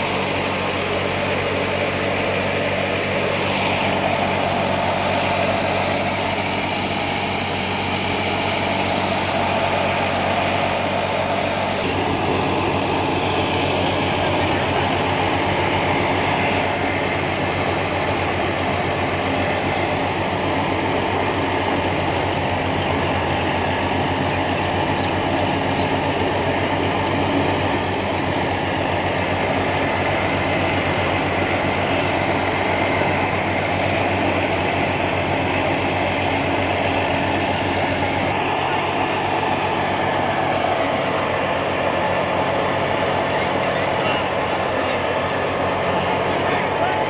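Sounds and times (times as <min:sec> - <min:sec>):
thresher machine pulsing: 0:00.0 - 0:47.0
tractor diesel engine under load: 0:00.0 - 0:47.0.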